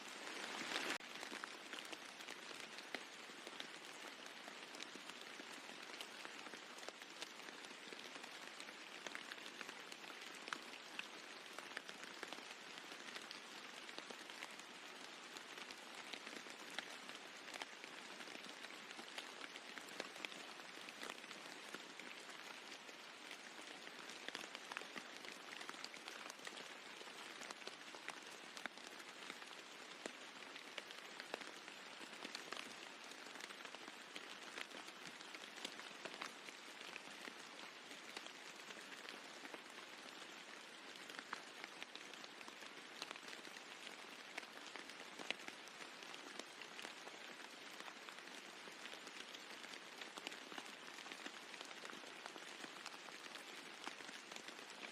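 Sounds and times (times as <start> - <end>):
rain falling on a roof: 0.0 - 54.9.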